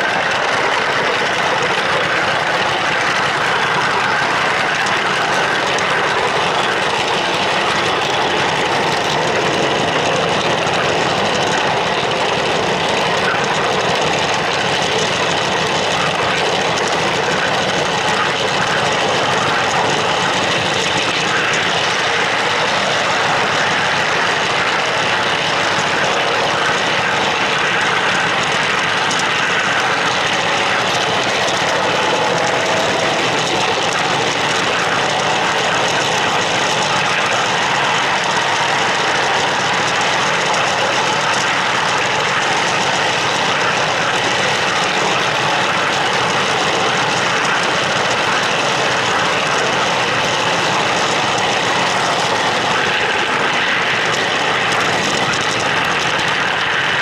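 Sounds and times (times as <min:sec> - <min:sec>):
model train wheels rumbling on rails: 0:00.0 - 0:57.0.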